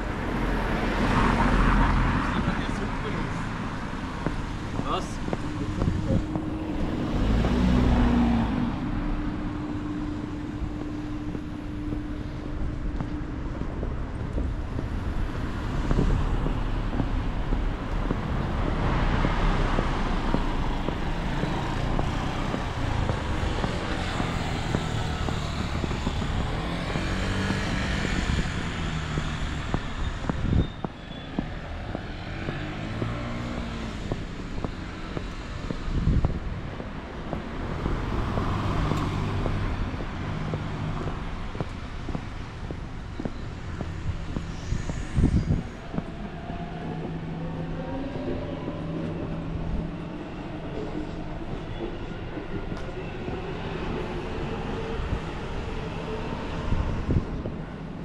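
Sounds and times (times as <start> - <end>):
passing vehicle rumble: 0.0 - 58.0.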